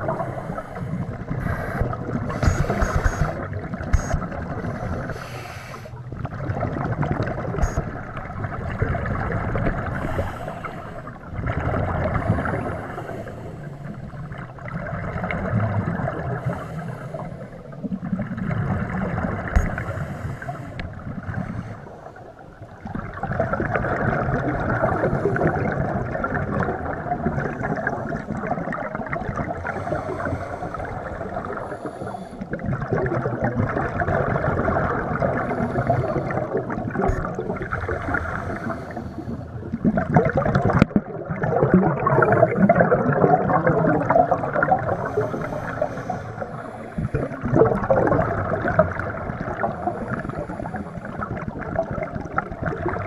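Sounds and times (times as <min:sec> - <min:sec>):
scuba regulator bubbling exhale: 0:00.0 - 0:53.0.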